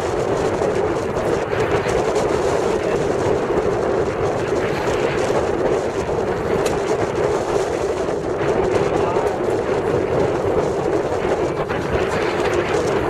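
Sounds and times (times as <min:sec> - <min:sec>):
motorboat engine rumble: 0:00.0 - 0:13.0
wind buffeting microphone: 0:00.0 - 0:13.0.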